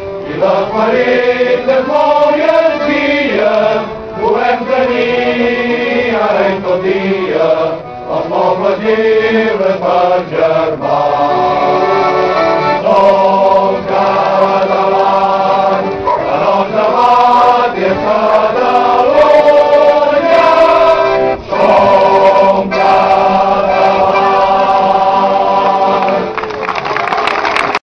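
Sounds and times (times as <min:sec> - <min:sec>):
choir singing held chords: 0:00.0 - 0:26.5.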